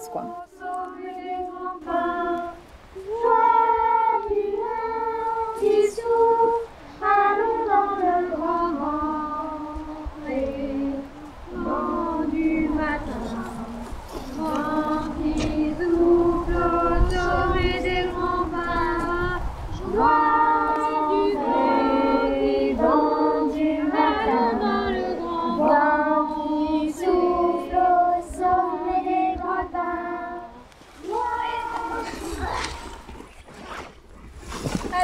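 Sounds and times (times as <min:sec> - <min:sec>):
children and woman singing: 0:00.0 - 0:33.2.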